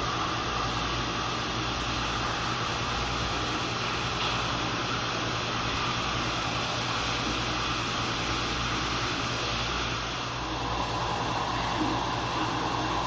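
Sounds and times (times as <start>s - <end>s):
ventilation drone: 0.0s - 13.0s.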